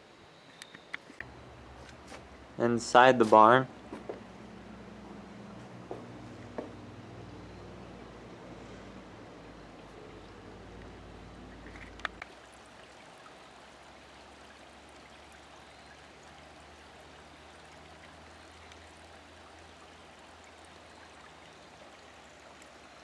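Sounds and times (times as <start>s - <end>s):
mountain stream rushing: 1.2s - 23.0s.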